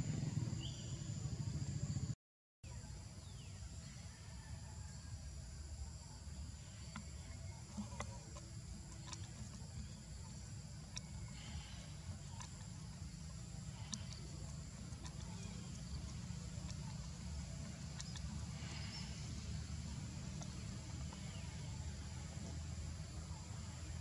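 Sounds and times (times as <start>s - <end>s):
low rumble with faint hiss: 2.7s - 24.0s.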